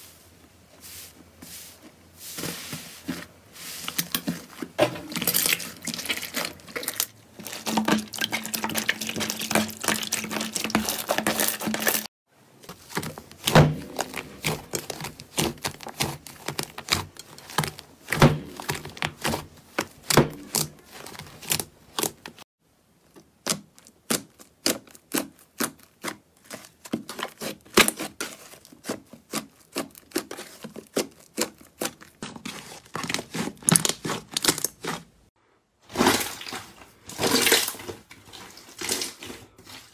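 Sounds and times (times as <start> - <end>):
slime squelching and crackling: 3.9 - 12.1, 12.7 - 22.4, 23.2 - 39.9.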